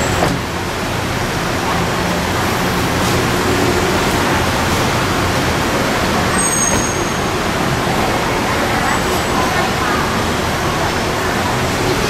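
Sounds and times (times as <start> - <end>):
traffic rumble and hiss: 0.0 - 12.0.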